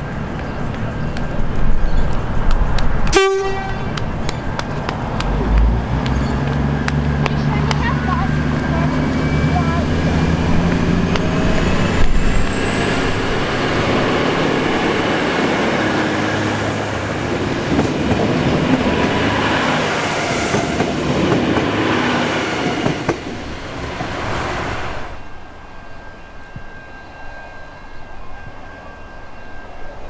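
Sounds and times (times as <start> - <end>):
diesel train passing: 0.0 - 30.0.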